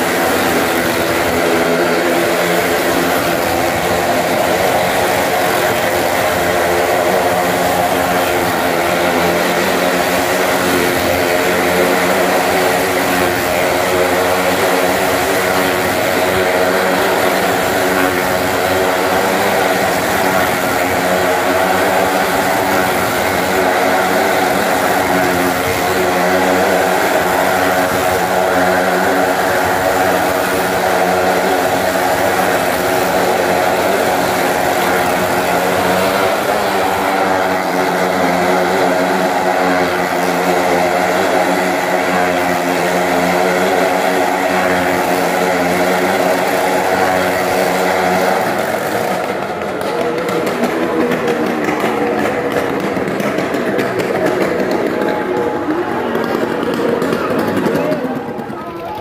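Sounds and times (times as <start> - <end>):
motorcycle engine running steadily: 0.0 - 59.0.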